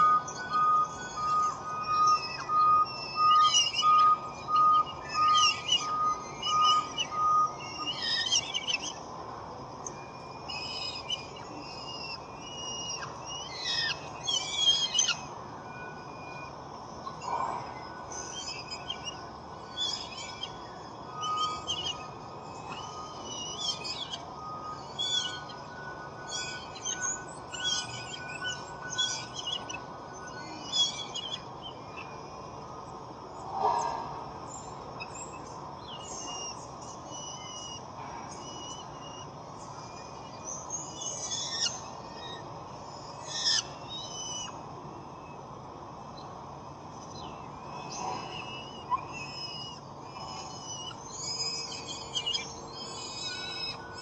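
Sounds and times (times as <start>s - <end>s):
small birds chirping: 0.0s - 9.1s, 9.8s - 54.0s
faint steady whine: 0.0s - 54.0s.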